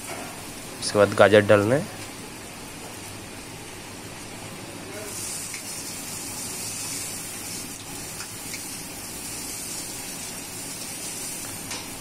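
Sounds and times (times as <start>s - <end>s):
vegetables sizzling in oil: 1.6s - 12.0s.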